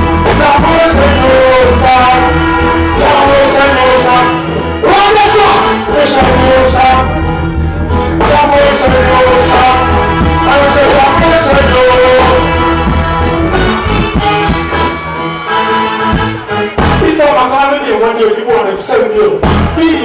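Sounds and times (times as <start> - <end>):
reggae music with singing: 0.0 - 20.0.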